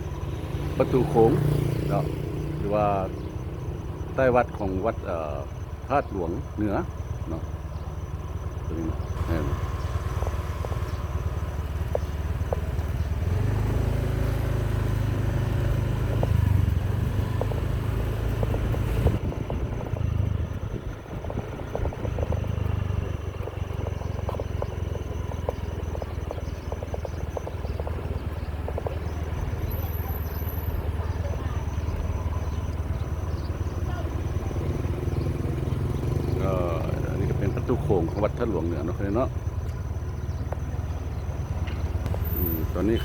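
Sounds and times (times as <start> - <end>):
motorcycle engine running: 0.0 - 43.0
road noise: 0.0 - 43.0.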